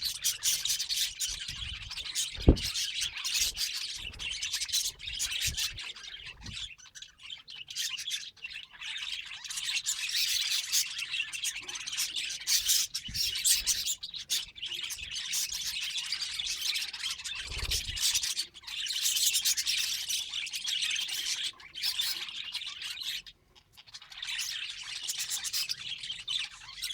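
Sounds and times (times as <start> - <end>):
budgerigars chattering and warbling: 0.0 - 26.9.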